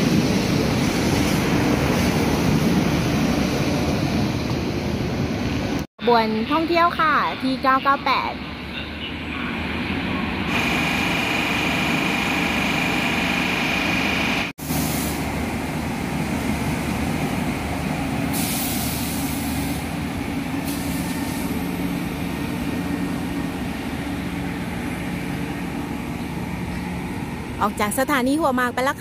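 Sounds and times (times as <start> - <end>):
diesel train engines humming: 0.0 - 29.0.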